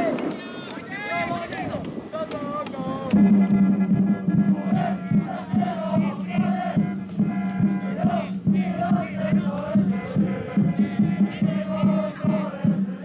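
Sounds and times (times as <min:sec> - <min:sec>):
crowd chanting in unison: 0:00.0 - 0:13.0
steady drumbeat: 0:00.0 - 0:13.0.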